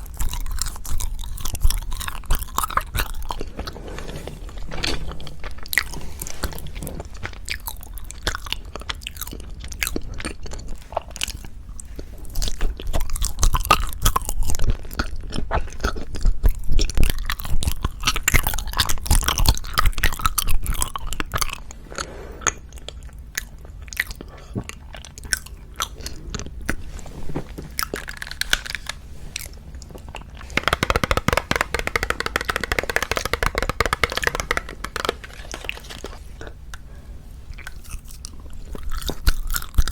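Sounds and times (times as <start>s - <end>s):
biting and chewing crunchy food: 0.0s - 3.8s, 5.2s - 27.1s, 27.7s - 39.9s.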